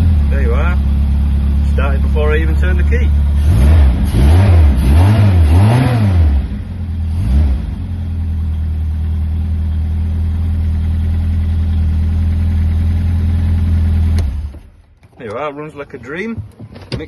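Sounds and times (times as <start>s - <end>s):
car engine revving and idling: 0.0s - 14.9s.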